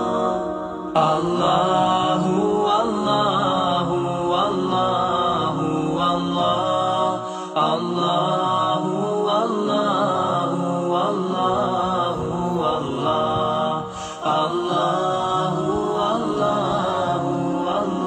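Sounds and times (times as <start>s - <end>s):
melodic vocal chanting: 0.0s - 18.0s.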